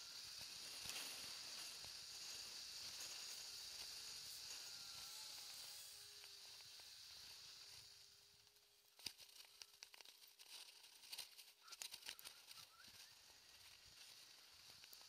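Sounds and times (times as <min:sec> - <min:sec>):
electric scooter hiss: 0:00.0 - 0:09.8, 0:10.6 - 0:15.0
thin steady whine: 0:00.0 - 0:15.0.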